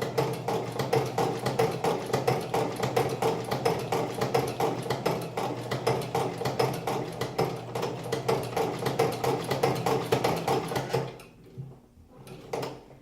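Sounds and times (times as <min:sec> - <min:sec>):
sewing machine clacking: 0:00.0 - 0:11.4, 0:12.2 - 0:13.0.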